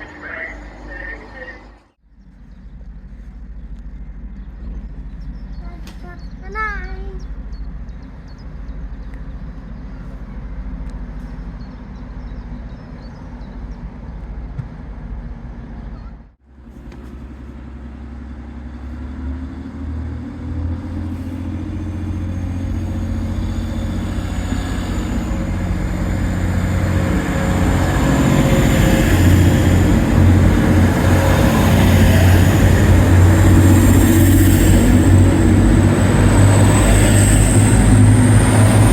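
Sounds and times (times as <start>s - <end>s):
low rumble: 0.0s - 38.9s
train approaching: 0.0s - 38.9s.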